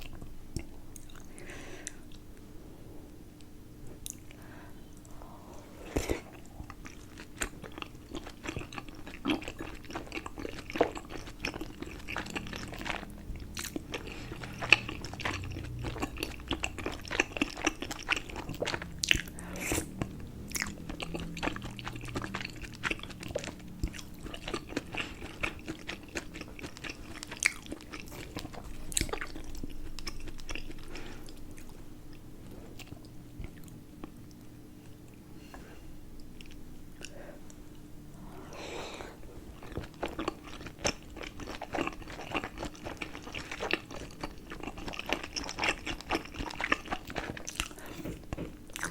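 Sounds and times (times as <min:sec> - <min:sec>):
chewing with wet mouth smacks: 0:00.0 - 0:01.4, 0:06.0 - 0:35.2, 0:36.2 - 0:37.9, 0:39.4 - 0:48.9
steady low hum: 0:00.0 - 0:48.9.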